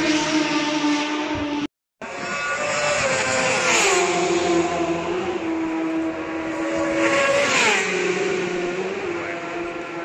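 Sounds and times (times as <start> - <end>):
motorcycle screaming past: 0.0 - 10.0
racing motorcycle engine pulling away: 0.0 - 10.0.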